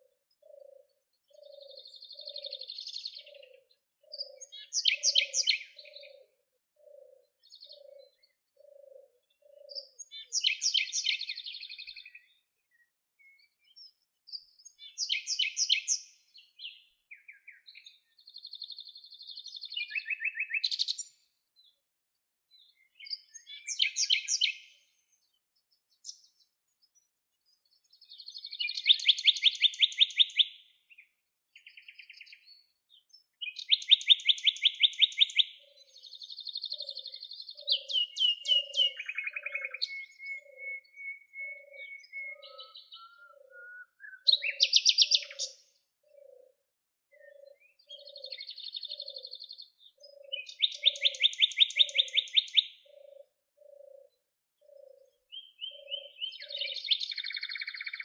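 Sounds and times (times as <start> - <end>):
songbirds trilling: 0.0 - 21.8, 22.5 - 58.0.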